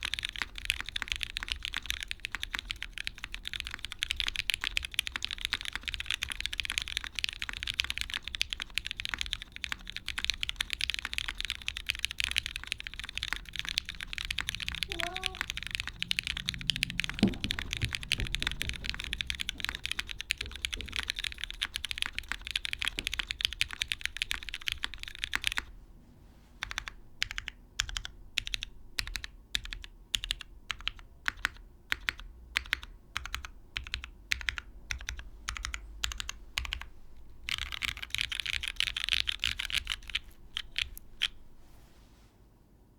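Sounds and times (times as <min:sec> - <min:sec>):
mechanical keyboard typing: 0:00.0 - 0:25.7, 0:26.6 - 0:41.4.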